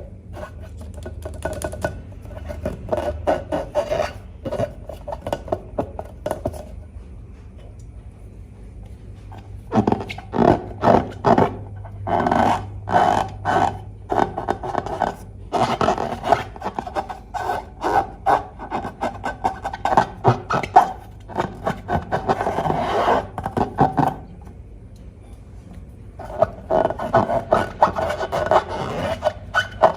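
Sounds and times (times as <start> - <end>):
slime rubbing and scraping: 0.0 - 6.8, 9.2 - 24.3, 26.2 - 29.9.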